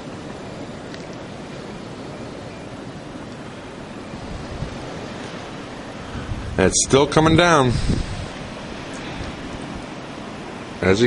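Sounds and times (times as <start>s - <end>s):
blizzard wind blowing: 0.0s - 11.0s.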